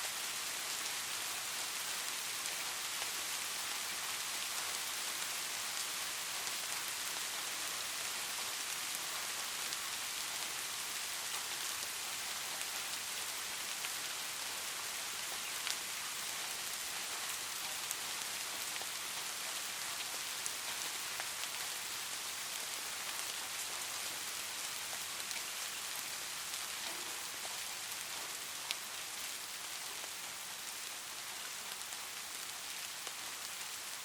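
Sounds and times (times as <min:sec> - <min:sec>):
rain hissing: 0:00.0 - 0:34.0
raindrops ticking on a surface: 0:00.1 - 0:34.0.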